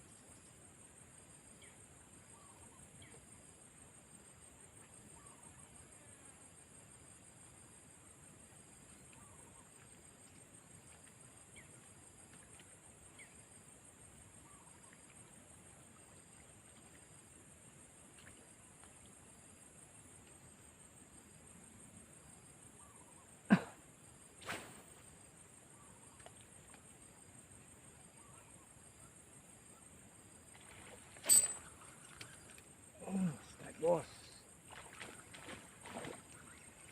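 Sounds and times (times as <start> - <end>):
insects chorus: 0.0 - 36.9.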